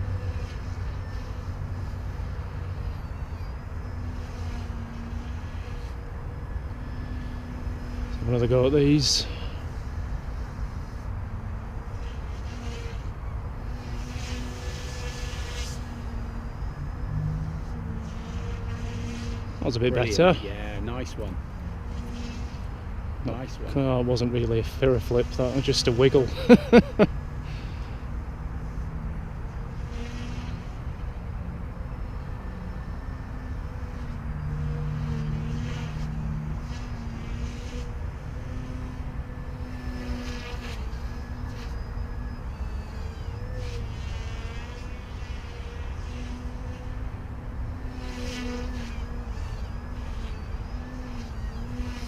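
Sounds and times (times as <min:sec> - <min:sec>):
rc helicopter rotor hum: 0:00.0 - 0:52.0.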